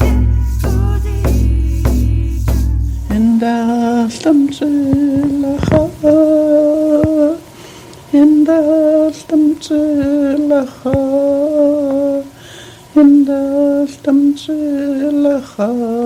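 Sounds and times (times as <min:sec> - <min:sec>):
person singing long held notes: 0:00.0 - 0:07.5, 0:08.1 - 0:16.0.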